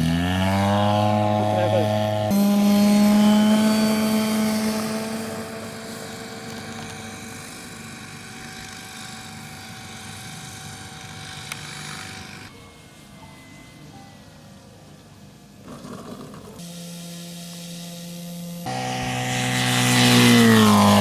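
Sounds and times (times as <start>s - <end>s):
model aircraft engine running: 0.0s - 12.5s, 15.7s - 21.0s.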